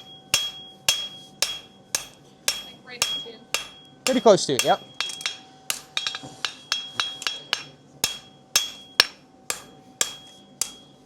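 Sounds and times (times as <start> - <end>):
hammer striking horseshoe on anvil: 0.0 - 11.0.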